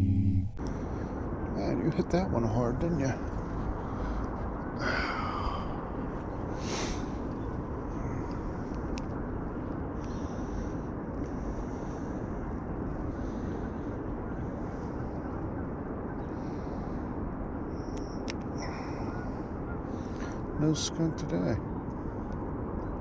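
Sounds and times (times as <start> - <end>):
low rumbling outdoor noise: 0.0 - 23.0.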